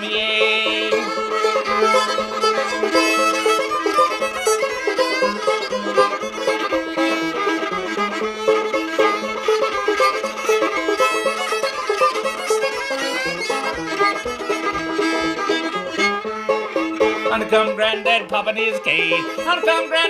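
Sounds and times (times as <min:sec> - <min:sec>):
fiddle tune on violin: 0:00.0 - 0:20.0
plucked string accompaniment: 0:00.0 - 0:20.0.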